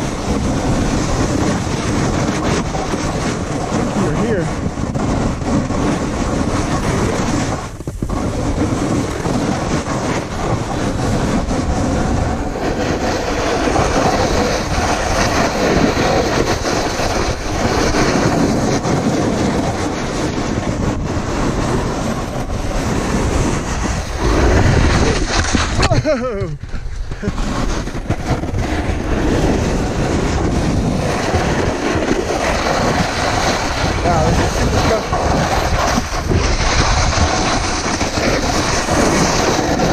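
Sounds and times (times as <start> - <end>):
snowboard scraping over snow: 0.0 - 39.9.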